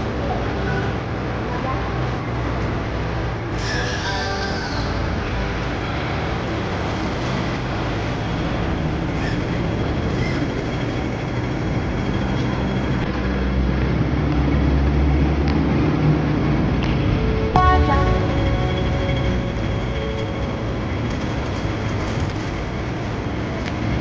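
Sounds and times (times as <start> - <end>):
bus engine rumble: 0.0 - 24.0
street traffic noise: 0.0 - 24.0.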